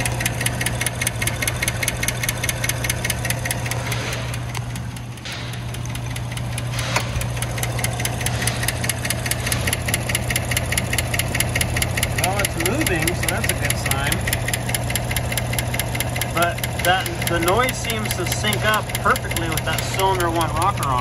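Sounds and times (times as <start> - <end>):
car engine idling: 0.0 - 21.0
rapid valve-train ticking: 0.0 - 21.0.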